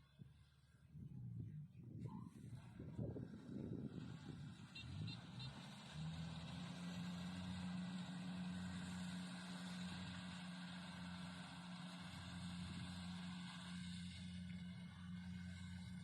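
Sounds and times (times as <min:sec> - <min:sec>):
small engine running: 0:02.4 - 0:16.0.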